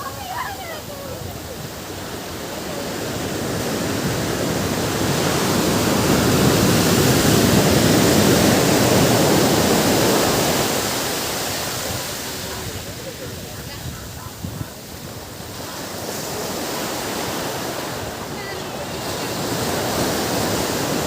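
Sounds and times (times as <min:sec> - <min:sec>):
ocean wave rushing in: 0:00.0 - 0:21.0.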